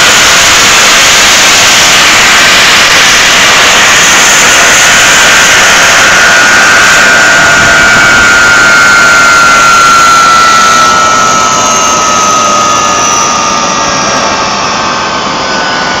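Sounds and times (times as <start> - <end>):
jet engine rushing and whining: 0.0 - 16.0.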